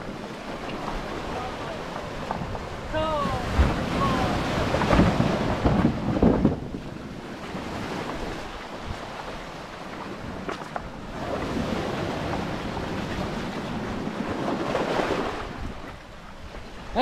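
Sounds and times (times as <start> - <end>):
surf breaking on cobble beach: 0.0 - 15.8
wind buffeting microphone: 0.0 - 17.0.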